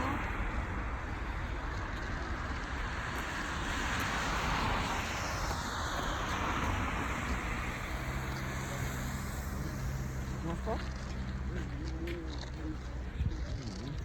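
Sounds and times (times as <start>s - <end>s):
jet airliner roar overhead: 0.0s - 14.0s.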